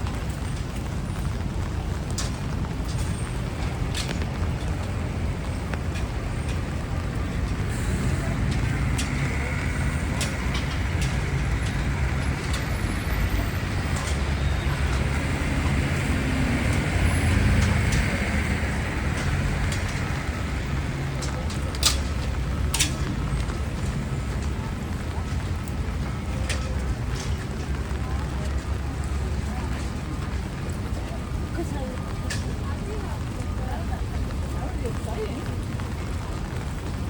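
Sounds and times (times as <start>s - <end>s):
engine rumble: 0.0s - 37.0s
tyre noise on wet road: 0.0s - 37.0s.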